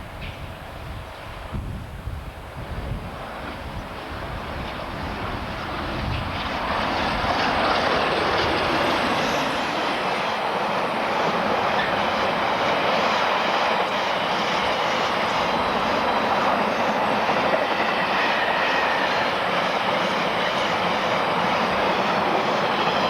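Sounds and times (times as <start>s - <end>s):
train wheels roaring on rail: 0.0s - 23.0s.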